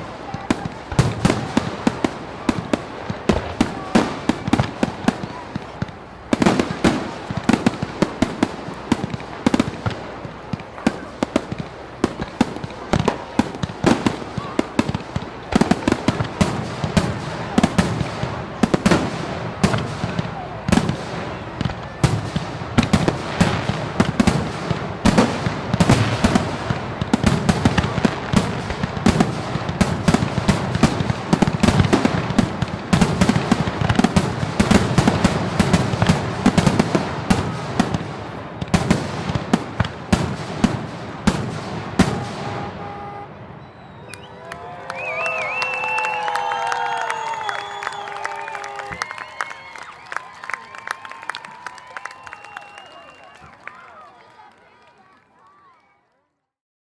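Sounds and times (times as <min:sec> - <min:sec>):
fireworks bangs and crackles: 0:00.0 - 0:53.8.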